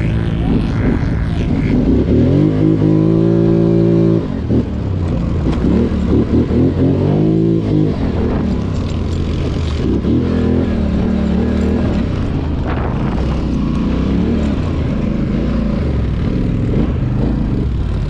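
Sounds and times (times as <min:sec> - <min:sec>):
quad bike engine revving: 0:00.0 - 0:18.0.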